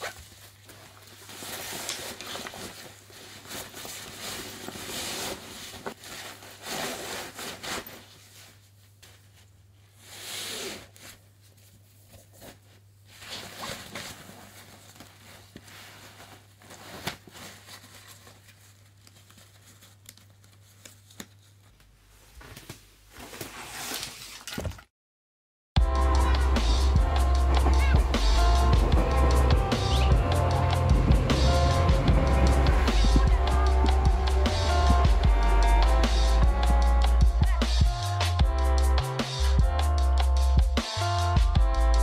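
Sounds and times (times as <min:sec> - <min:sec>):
nylon fabric rustling: 0:00.0 - 0:24.5, 0:26.4 - 0:38.2.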